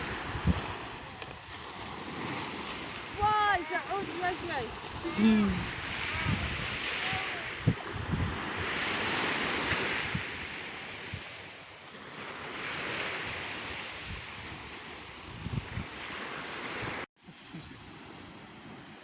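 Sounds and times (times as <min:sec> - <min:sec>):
sea waves breaking: 0:00.0 - 0:19.0
wind on microphone: 0:00.0 - 0:19.0.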